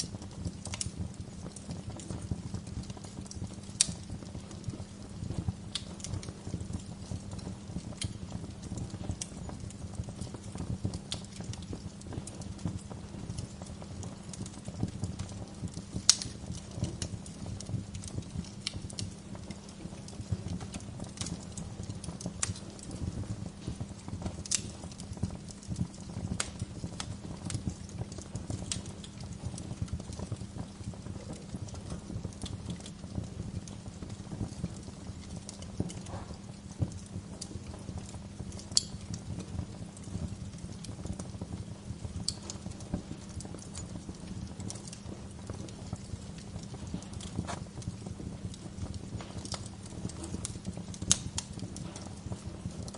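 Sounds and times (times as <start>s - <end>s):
bonfire crackling and popping: 0.0s - 52.9s
low rumble of flames: 0.0s - 52.9s.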